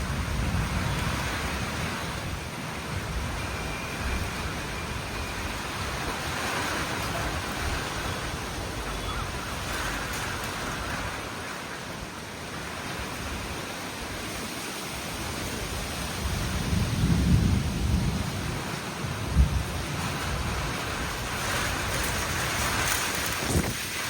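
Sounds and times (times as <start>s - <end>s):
low rumble of thunder: 0.0s - 11.4s, 15.5s - 24.0s
rain falling steadily: 0.0s - 24.0s.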